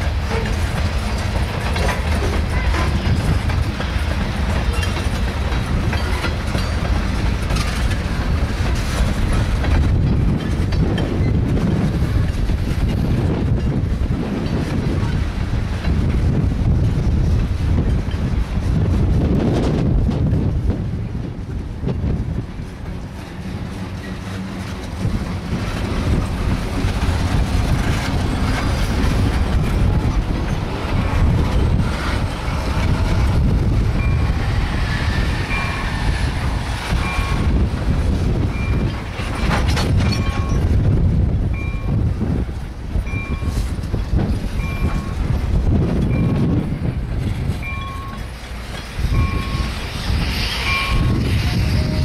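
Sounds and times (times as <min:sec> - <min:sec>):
freight train rumbling past: 0:00.0 - 0:52.0
wheels clattering on rail joints: 0:00.0 - 0:52.0.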